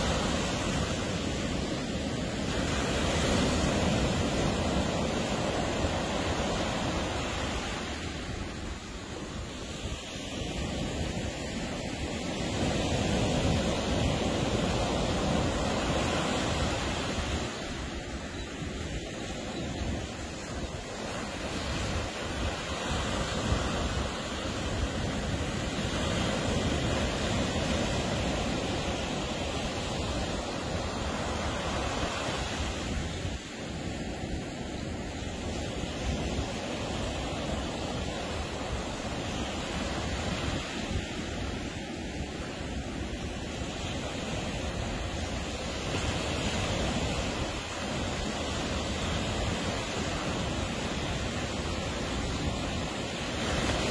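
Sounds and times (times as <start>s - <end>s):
ocean surf breaking: 0.0s - 53.9s
wind noise on microphone: 0.0s - 53.9s.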